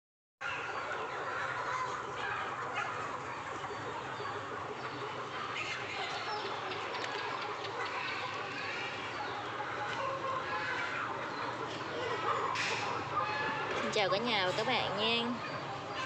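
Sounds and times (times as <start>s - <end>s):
chickens clucking: 0.4s - 16.0s.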